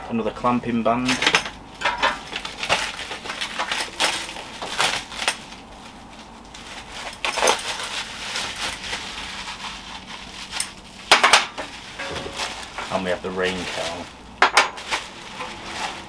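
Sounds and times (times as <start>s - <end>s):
plastic packaging crinkling: 1.5s - 16.0s.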